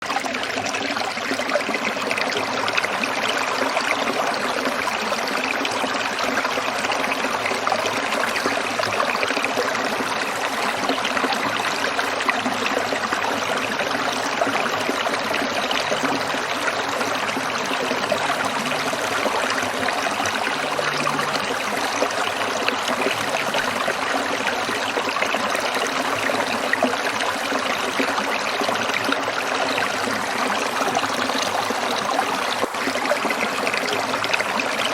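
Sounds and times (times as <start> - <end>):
stream trickling over stones: 0.0 - 34.9.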